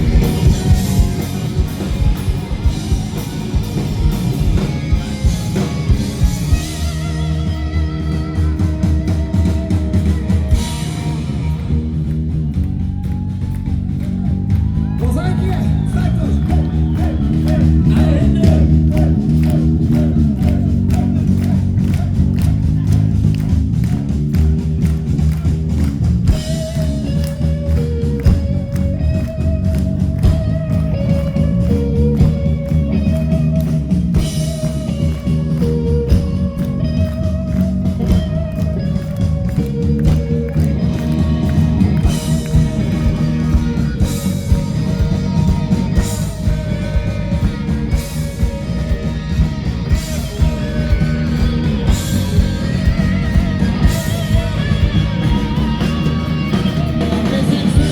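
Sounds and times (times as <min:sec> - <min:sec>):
bass guitar: 0:00.0 - 0:57.9
drum kit: 0:00.0 - 0:57.9
electric guitars: 0:00.0 - 0:57.9.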